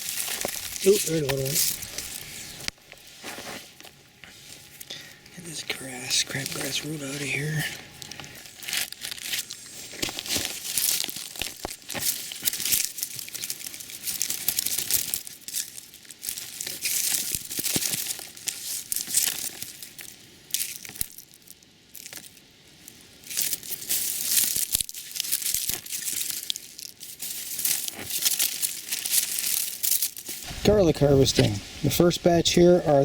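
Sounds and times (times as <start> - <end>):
stalks snapping and tearing: 0.0 - 4.9, 6.3 - 30.6
dry leaves rustling and crackling: 0.0 - 33.0.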